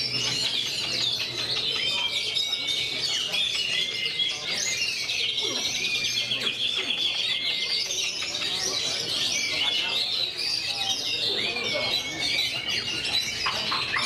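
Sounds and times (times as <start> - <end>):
bird singing whistles and chirps: 0.0 - 14.0
fast rattling bird trill: 0.0 - 14.0.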